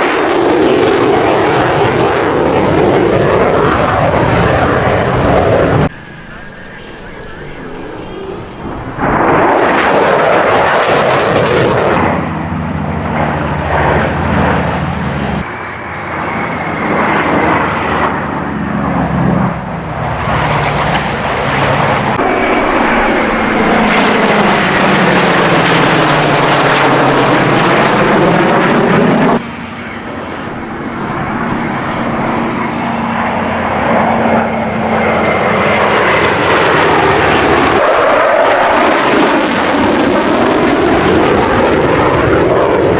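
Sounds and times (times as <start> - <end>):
airplane engines flying past: 0.0 - 42.9.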